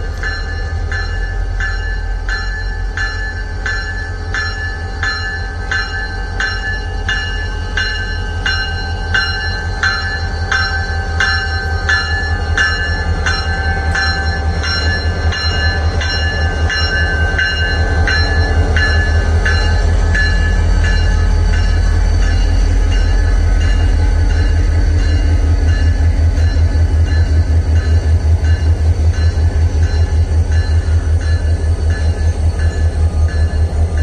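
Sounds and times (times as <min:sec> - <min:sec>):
diesel locomotive rumbling: 0:00.0 - 0:34.0
rhythmic metallic ringing clank: 0:00.0 - 0:34.0.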